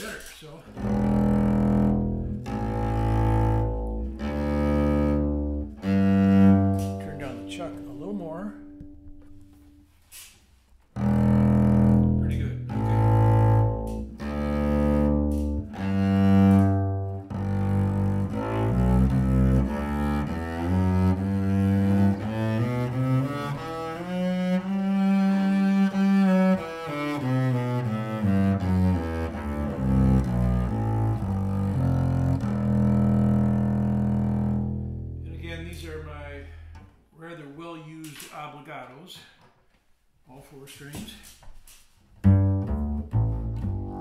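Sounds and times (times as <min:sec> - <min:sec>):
bowed double bass: 0:00.0 - 0:10.0, 0:10.9 - 0:37.0, 0:42.1 - 0:44.0.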